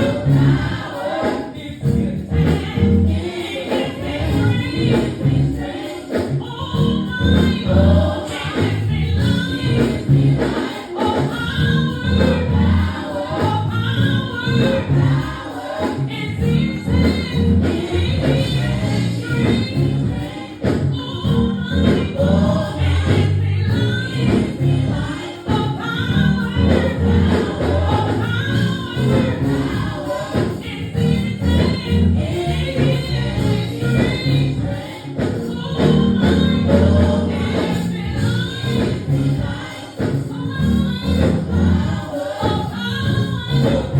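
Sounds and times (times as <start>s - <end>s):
bass: 0.0s - 43.9s
drum beats: 0.0s - 43.9s
gospel choir singing: 0.0s - 43.9s.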